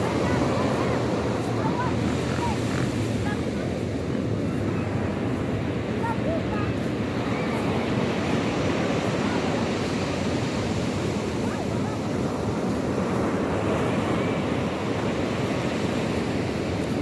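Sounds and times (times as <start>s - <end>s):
sea surf washing onto shore: 0.0s - 17.0s.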